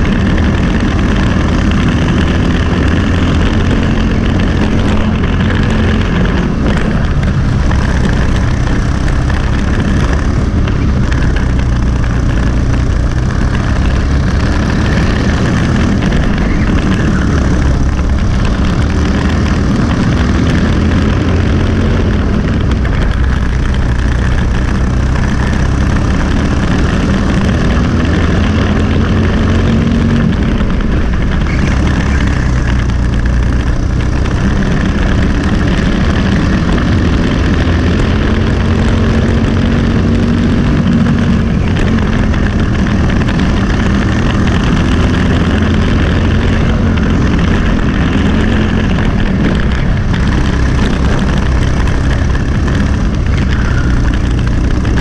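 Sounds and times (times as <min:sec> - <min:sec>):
kart engine running: 0:00.0 - 0:55.0.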